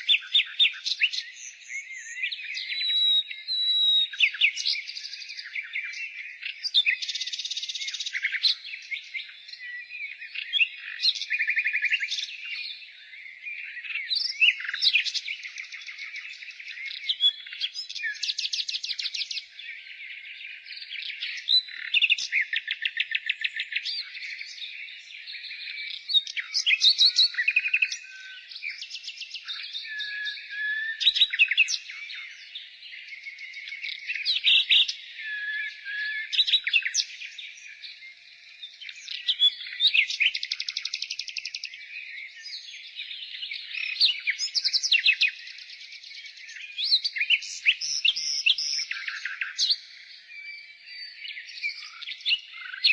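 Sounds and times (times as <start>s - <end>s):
nightingale singing: 0.0s - 52.9s.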